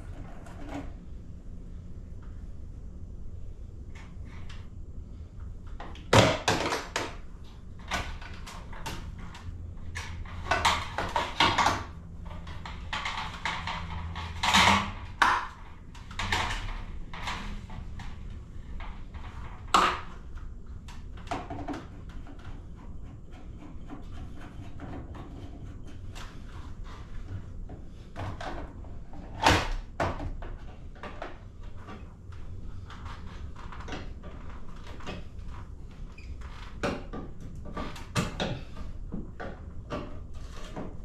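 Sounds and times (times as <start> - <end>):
low steady hum: 0.0 - 41.0
hands knocking and rattling plastic parts: 5.6 - 41.0.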